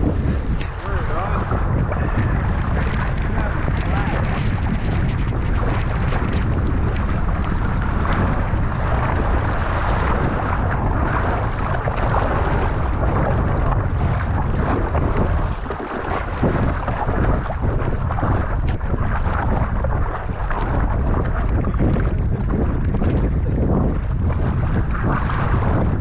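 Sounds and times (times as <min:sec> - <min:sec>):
rushing water: 0:00.0 - 0:26.0
wind buffeting microphone: 0:00.0 - 0:26.0.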